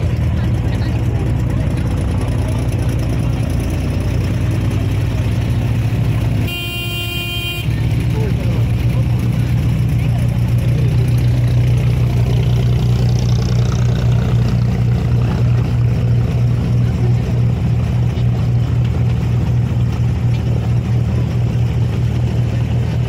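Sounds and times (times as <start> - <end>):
boat diesel engine humming: 0.0 - 23.0.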